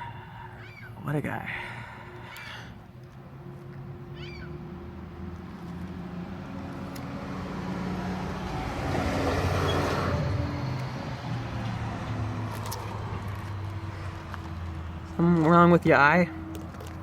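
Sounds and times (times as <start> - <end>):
motor vehicle passing: 1.5 - 17.0.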